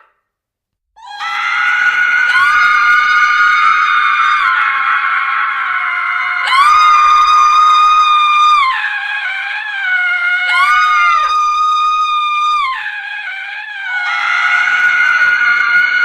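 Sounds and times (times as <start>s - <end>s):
women screaming: 1.0s - 16.0s.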